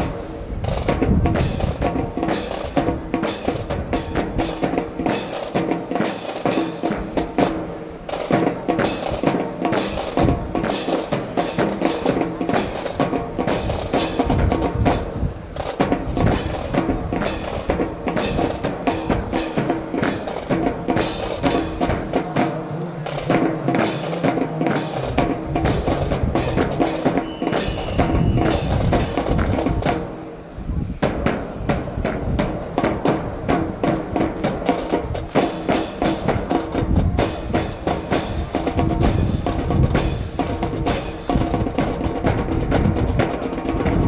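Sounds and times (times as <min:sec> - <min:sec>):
drum-led music: 0:00.0 - 0:44.0.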